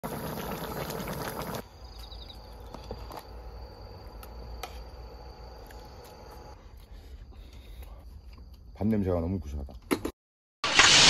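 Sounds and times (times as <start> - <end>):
insects chirping: 0.1 - 9.7.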